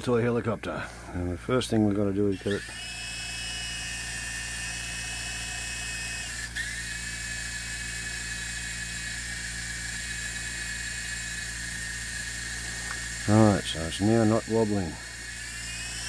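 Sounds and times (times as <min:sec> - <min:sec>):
toy helicopter motors whining: 0:01.2 - 0:16.0.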